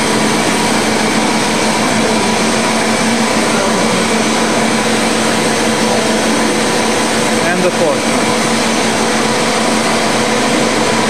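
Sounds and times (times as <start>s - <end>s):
printing press running: 0.0s - 11.0s.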